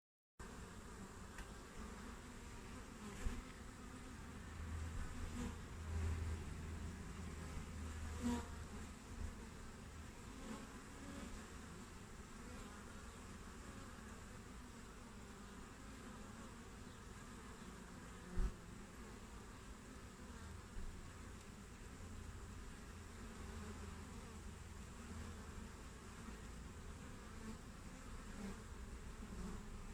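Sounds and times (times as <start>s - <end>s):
honeybees buzzing: 0.4s - 29.9s.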